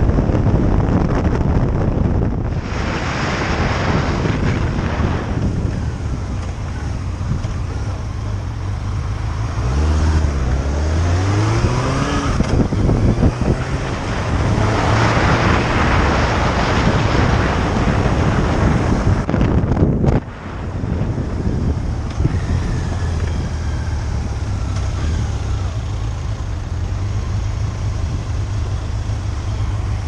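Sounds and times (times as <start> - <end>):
motorcycle engine accelerating: 0.0 - 30.0
wind rushing over microphone: 0.0 - 30.0.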